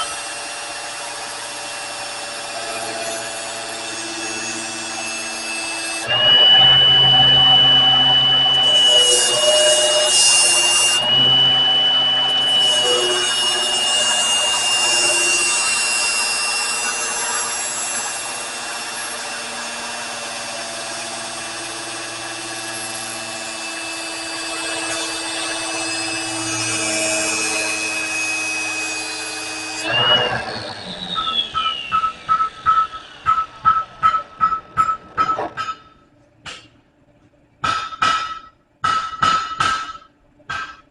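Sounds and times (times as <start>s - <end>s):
power tool whining: 0.0s - 35.6s.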